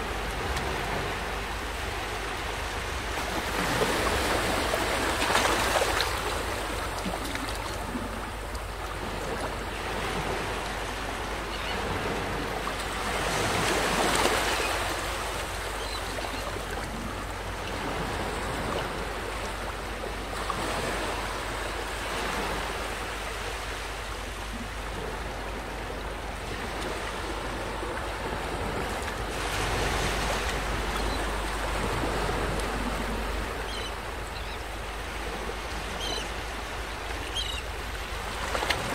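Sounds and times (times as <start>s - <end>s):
small waves breaking on sand: 0.0s - 38.9s.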